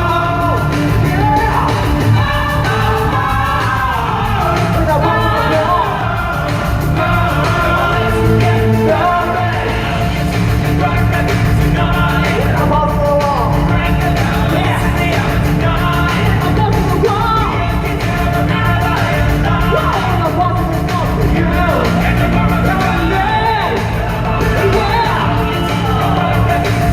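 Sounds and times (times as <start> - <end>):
heavy steady bass: 0.0 - 26.9
loud live rock music: 0.0 - 26.9
person singing: 0.0 - 26.9.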